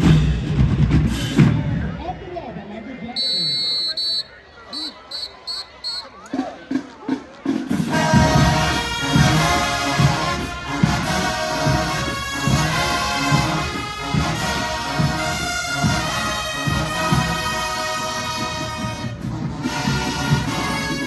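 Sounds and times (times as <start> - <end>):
brass band chords: 3.2 - 6.8, 7.4 - 21.0.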